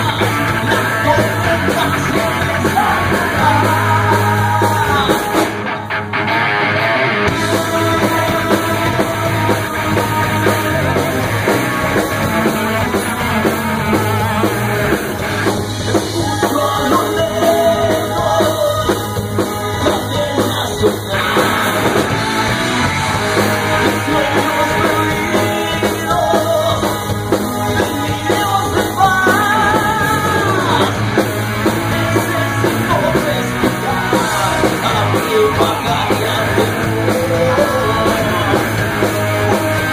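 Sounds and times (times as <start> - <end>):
person singing: 0.0 - 5.9, 7.3 - 15.0, 15.6 - 22.5, 23.2 - 31.2, 31.9 - 39.9
bass guitar: 0.0 - 39.9
distorted electric guitars: 0.0 - 39.9
drum kit: 0.0 - 39.9
keyboards: 0.0 - 39.9.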